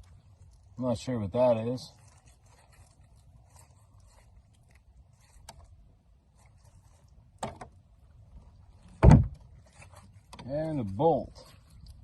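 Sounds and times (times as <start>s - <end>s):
faint handling sounds: 0.0s - 12.0s.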